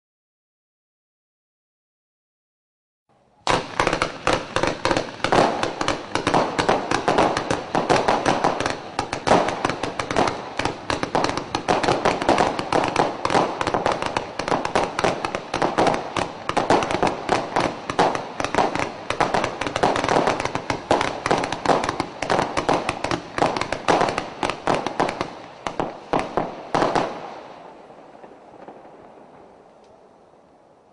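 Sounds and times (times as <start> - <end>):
fireworks volley: 3.2 - 30.9.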